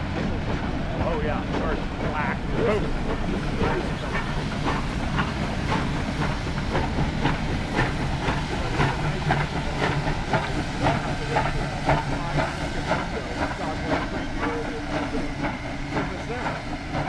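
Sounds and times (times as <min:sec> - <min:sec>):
sharp train chuffs: 0:00.0 - 0:17.0
train rumbling: 0:00.0 - 0:17.0.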